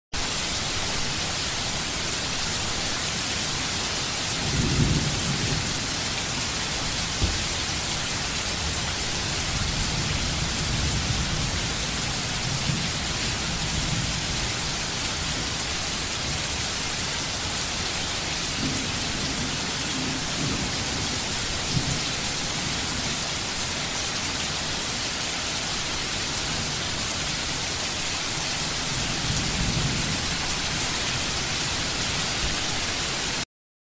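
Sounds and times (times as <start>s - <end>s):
steady rain: 0.2s - 33.4s.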